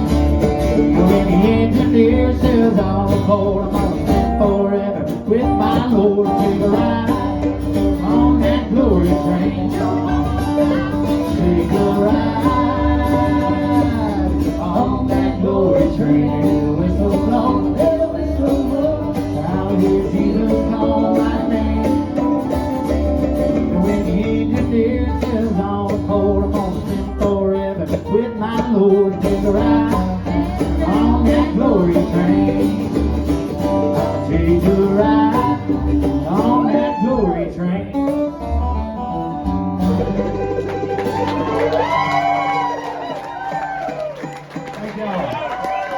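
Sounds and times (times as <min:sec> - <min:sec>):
bluegrass band with acoustic guitar: 0:00.0 - 0:45.9.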